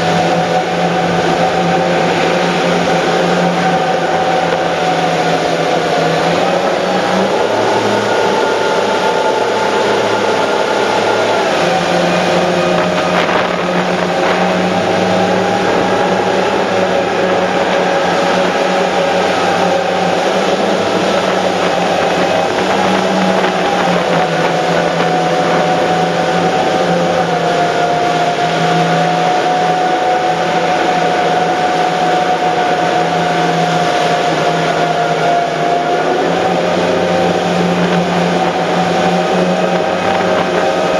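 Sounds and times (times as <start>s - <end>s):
boat engines whining: 0.0s - 40.9s
churning water: 0.0s - 40.9s
wind rushing: 0.0s - 40.9s.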